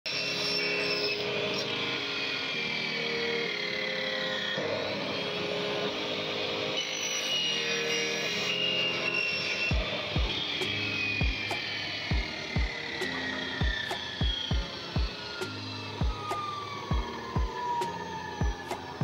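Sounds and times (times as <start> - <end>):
background music: 0.1 - 19.0
electric cut-off saw running: 0.1 - 19.0.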